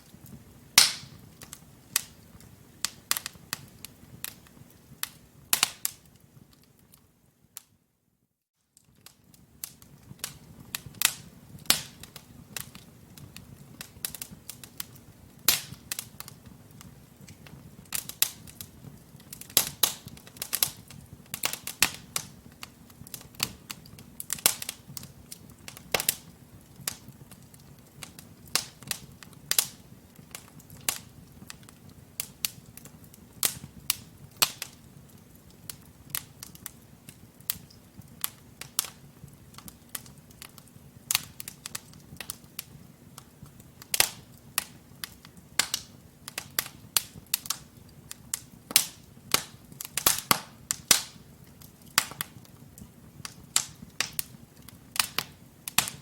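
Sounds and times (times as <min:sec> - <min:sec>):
low rumble of flame: 0:00.0 - 0:07.7, 0:08.8 - 0:56.0
crackles and pops of burning logs: 0:00.0 - 0:07.8, 0:08.7 - 0:56.0.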